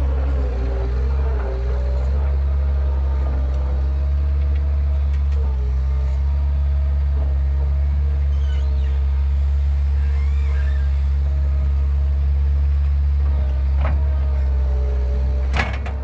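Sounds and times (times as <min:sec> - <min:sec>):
low engine drone: 0:00.0 - 0:15.8.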